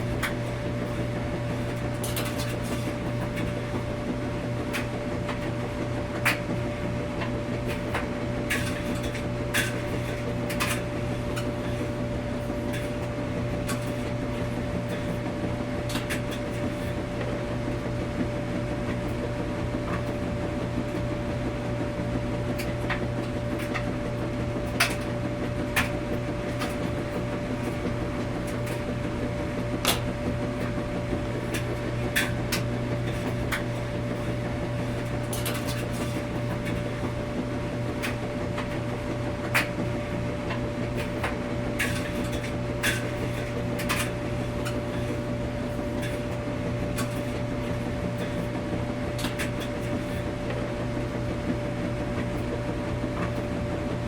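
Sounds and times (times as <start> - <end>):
washing machine running: 0.0 - 54.0.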